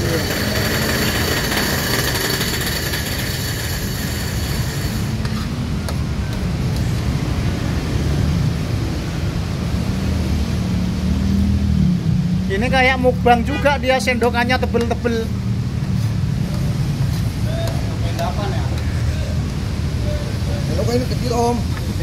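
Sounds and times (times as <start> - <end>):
traffic noise: 0.0 - 22.0
vehicle engine rumble: 0.0 - 22.0.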